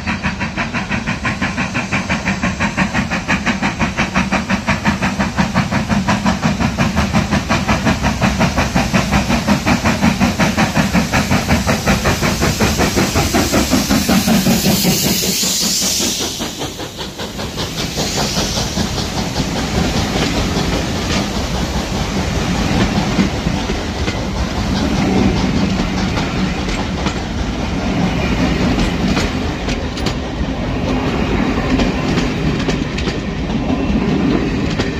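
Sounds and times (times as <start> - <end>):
train wheels clicking over rail joints: 0.0 - 34.9.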